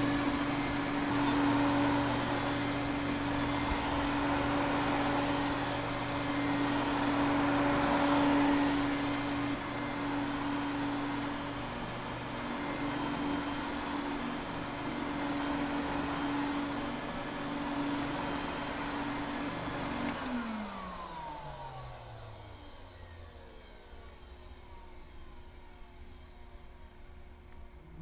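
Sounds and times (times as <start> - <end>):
vacuum cleaner running: 0.0 - 28.0
vacuum motor winding down: 0.0 - 28.0.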